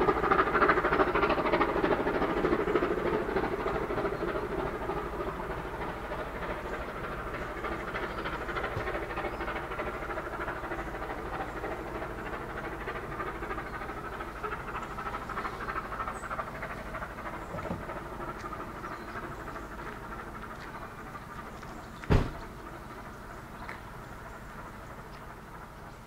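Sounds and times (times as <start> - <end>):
train wheels rumbling and rattling: 0.0 - 26.0.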